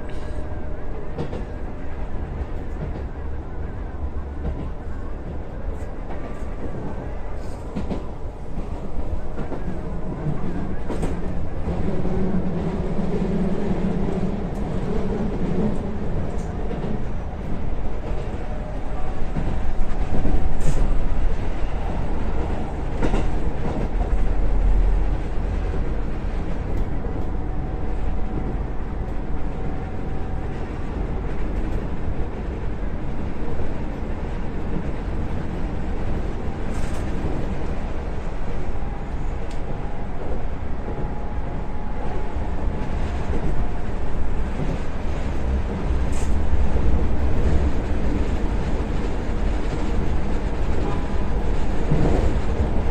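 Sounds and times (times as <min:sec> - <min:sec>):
train rumbling on rails: 0:00.0 - 0:52.9.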